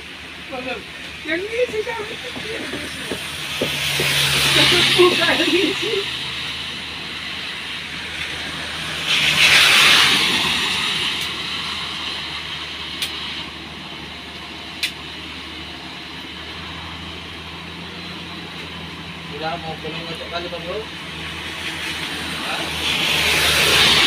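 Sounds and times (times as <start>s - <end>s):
truck diesel engine humming: 0.0s - 24.0s
tyres hissing through water: 0.0s - 24.0s.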